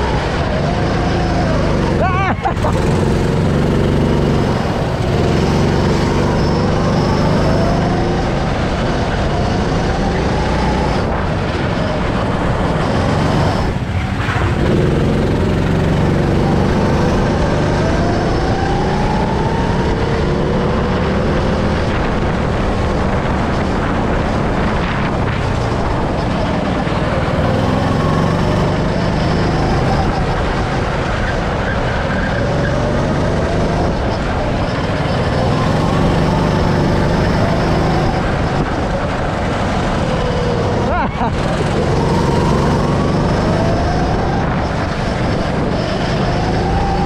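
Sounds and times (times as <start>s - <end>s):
go-kart engine accelerating: 0.0s - 47.0s
wind and track noise: 0.0s - 47.0s.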